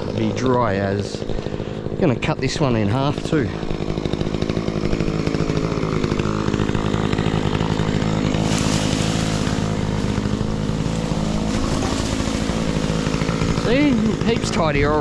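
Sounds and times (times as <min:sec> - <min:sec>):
chainsaw cutting branch: 0:00.0 - 0:15.0.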